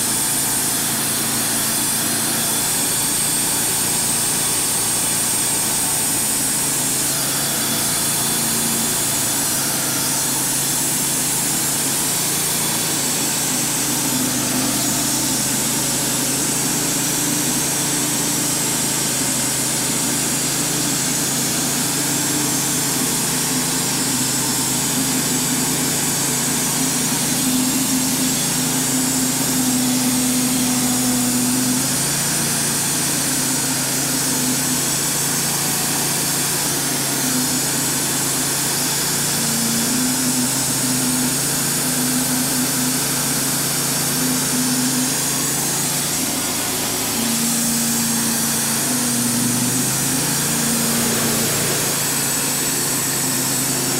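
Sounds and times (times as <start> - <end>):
band blade sawing wood: 0.0 - 53.9
band sawmill engine running: 0.0 - 53.9.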